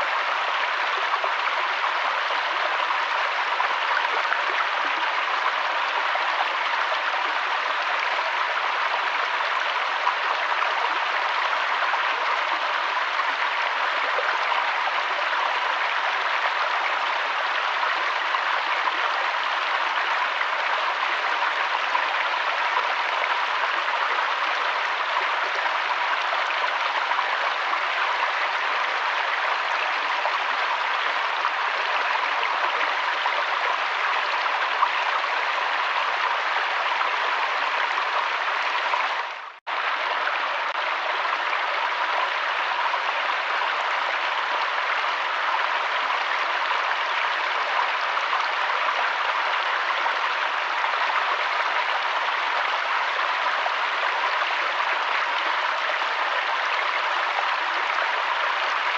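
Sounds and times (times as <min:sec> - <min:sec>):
flowing river water: 0:00.0 - 0:58.9.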